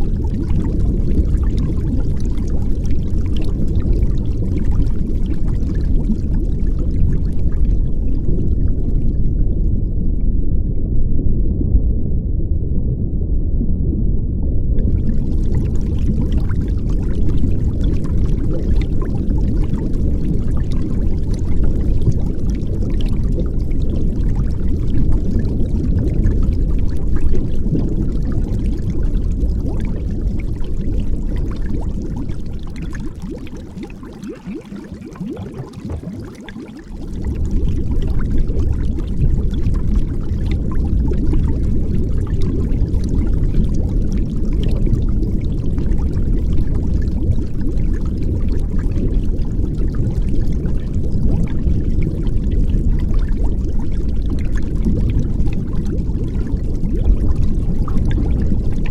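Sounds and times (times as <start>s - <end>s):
muffled underwater water rush: 0.0s - 58.9s.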